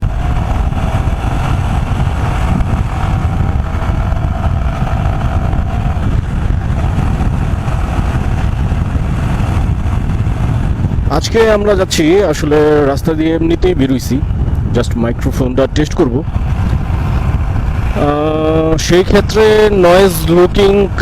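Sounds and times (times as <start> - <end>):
low engine and road rumble: 0.0 - 21.0
wind buffeting microphone: 0.0 - 21.0.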